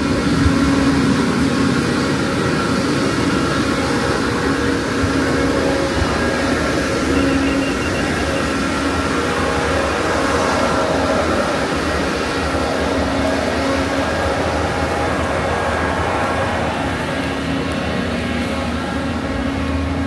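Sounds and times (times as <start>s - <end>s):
fog cannon fan and engine blasting: 0.0s - 20.0s.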